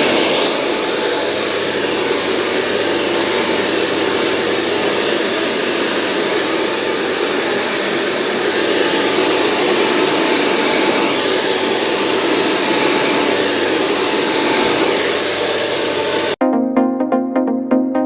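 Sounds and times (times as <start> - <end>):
hair dryer blowing: 0.0 - 16.4.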